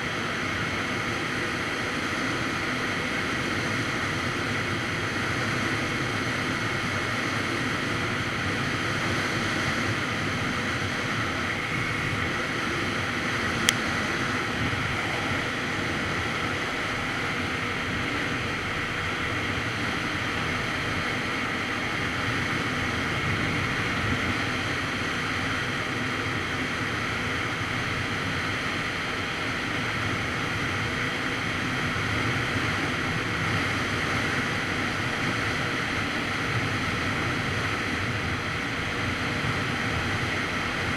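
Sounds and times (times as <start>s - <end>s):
wind buffeting microphone: 4.2s - 40.9s.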